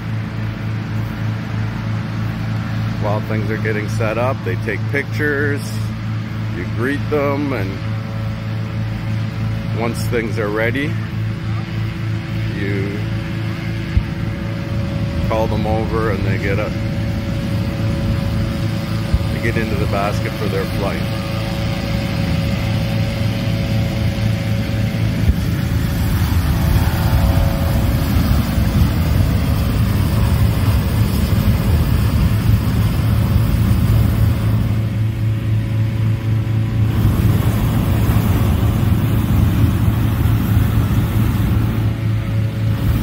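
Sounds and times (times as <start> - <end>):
engine-driven inflator fan running: 0.0 - 43.0.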